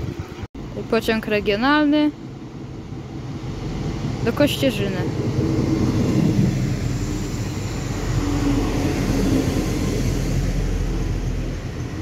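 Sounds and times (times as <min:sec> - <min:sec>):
faint train drive hum: 0:00.0 - 0:12.0
wheels rumbling on rail: 0:00.0 - 0:12.0.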